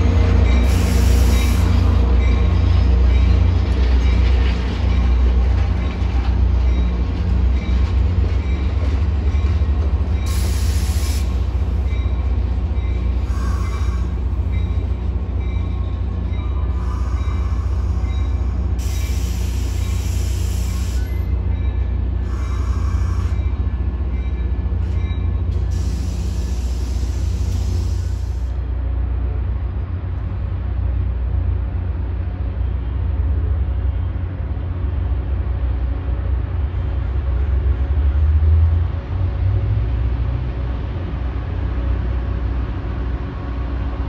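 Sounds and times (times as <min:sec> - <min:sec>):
train low rumble: 0:00.0 - 0:44.0.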